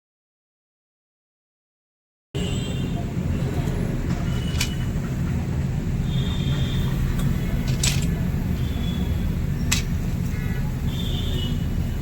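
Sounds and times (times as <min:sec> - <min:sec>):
road traffic rumble: 0:02.4 - 0:12.0.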